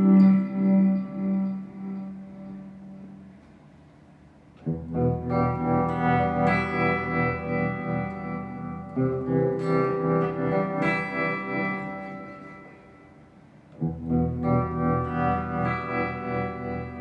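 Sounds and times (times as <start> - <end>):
electric guitar chords ringing: 0.0 - 17.0.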